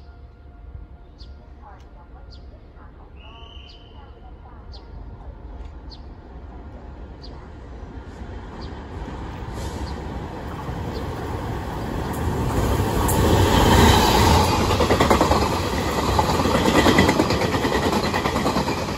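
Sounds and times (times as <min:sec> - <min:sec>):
passenger train passing: 0:00.0 - 0:18.9.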